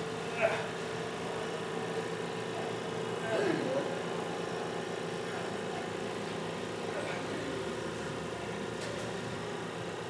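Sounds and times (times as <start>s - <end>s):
treadmill humming: 0.0s - 10.0s.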